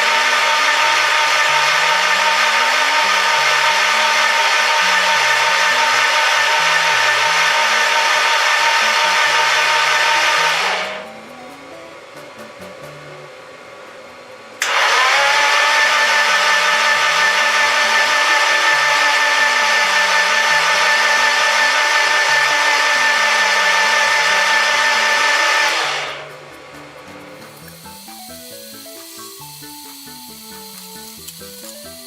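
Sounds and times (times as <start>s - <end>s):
high-speed power tool motor: 0.0s - 11.0s, 14.6s - 26.2s, 27.6s - 32.0s.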